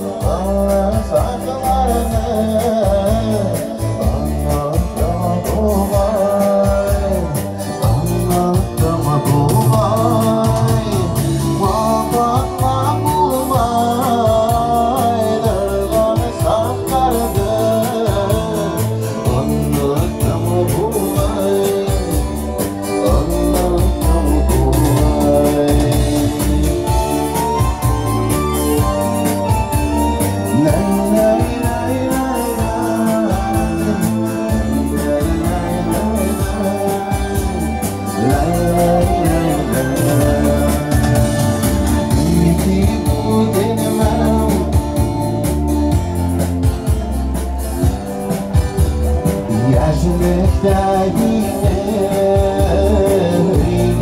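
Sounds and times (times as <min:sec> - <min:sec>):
man singing into microphone: 0:00.0 - 0:45.8, 0:49.2 - 0:54.0
instrumental music with pulsing bass: 0:00.0 - 0:54.0.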